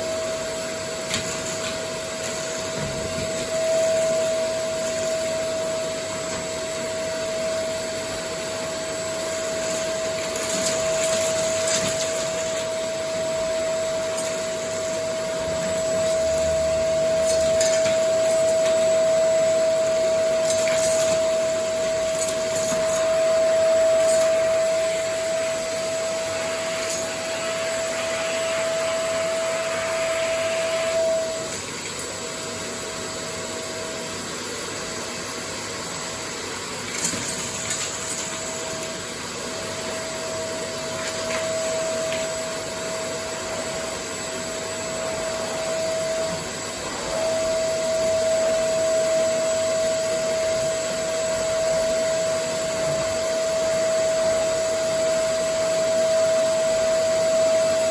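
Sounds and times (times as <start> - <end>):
vacuum cleaner whining: 0.0 - 57.9.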